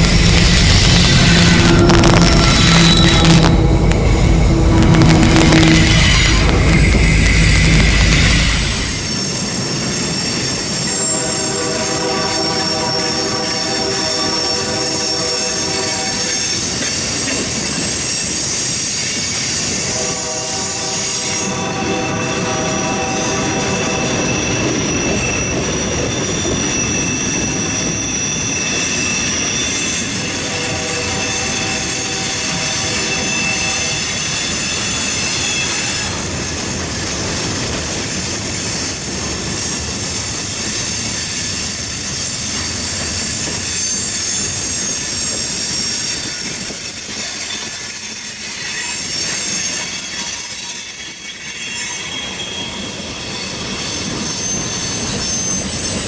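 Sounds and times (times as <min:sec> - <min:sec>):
rumble of train cars: 0:00.0 - 0:56.0
train wheels squealing on rails: 0:00.0 - 0:56.0.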